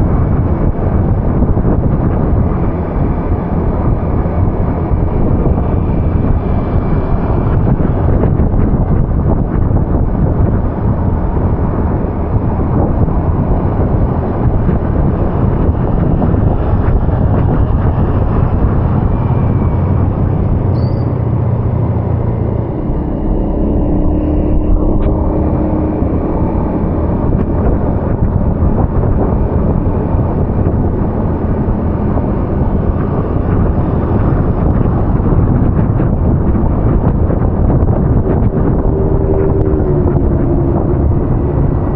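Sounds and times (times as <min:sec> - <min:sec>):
traffic on wet street: 0:00.0 - 0:41.9.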